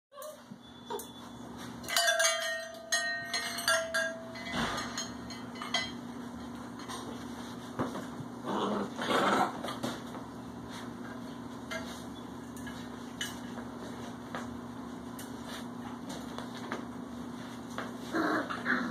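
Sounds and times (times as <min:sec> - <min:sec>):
puppies rustling and scuffling: 0:00.2 - 0:18.9
steady low hum: 0:00.4 - 0:18.9.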